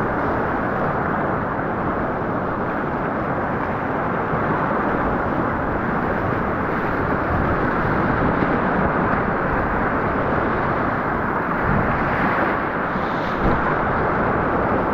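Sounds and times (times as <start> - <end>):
whitewater rapid roaring: 0.0 - 14.9.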